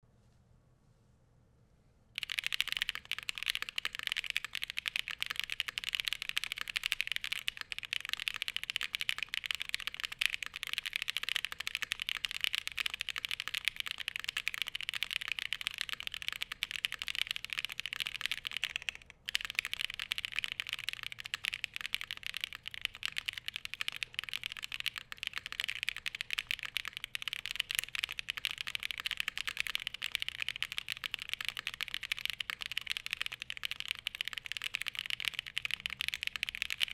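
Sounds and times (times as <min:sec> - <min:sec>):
fast mechanical keyboard typing: 0:02.2 - 0:36.9.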